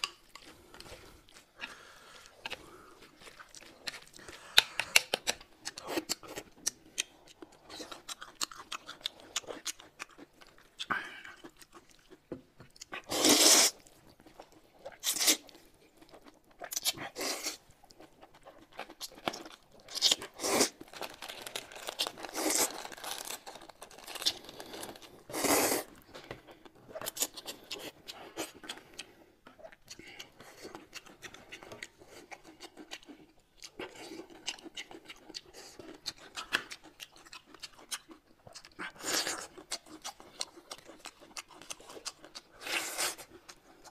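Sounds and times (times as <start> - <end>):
crunching bites and chewing: 0.0 - 43.9.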